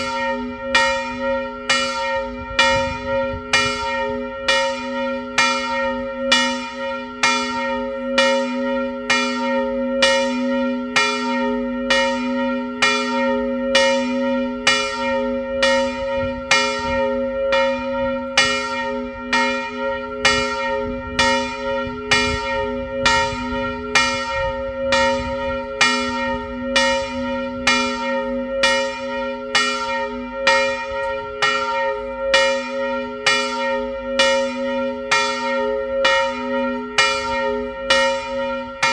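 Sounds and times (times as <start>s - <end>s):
large church bell ringing: 0.0s - 38.9s.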